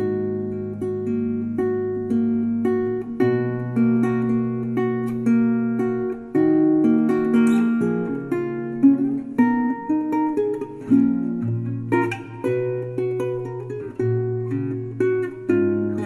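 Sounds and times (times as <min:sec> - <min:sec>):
plucked string instrumental music: 0:00.0 - 0:16.0.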